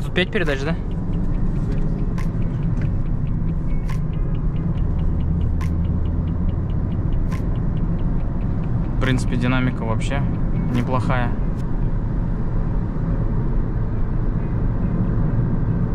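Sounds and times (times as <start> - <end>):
car engine and road rumble: 0.0 - 15.9.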